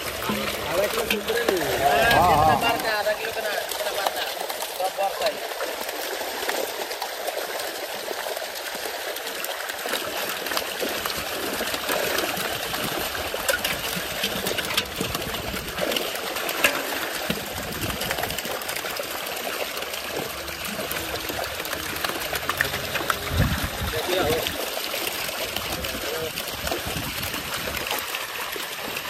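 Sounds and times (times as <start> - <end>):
fish splashing in water: 0.0 - 29.0.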